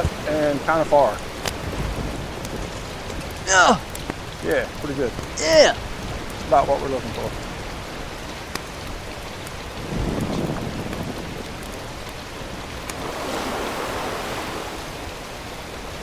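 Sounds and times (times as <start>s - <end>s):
surf: 0.0s - 16.0s
wind: 0.0s - 16.0s
wind buffeting microphone: 0.0s - 16.0s.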